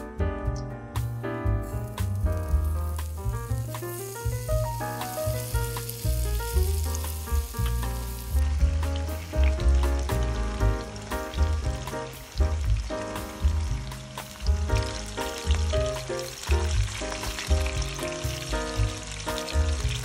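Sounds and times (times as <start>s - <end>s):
background music with bass line: 0.0s - 20.0s
food sizzling in hot oil: 1.4s - 20.0s.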